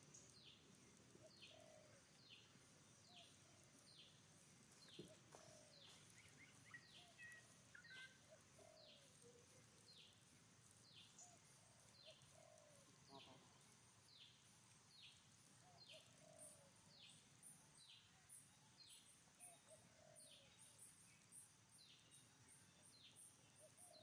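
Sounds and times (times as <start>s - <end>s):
lower bird calls and chirps: 0.0s - 24.0s.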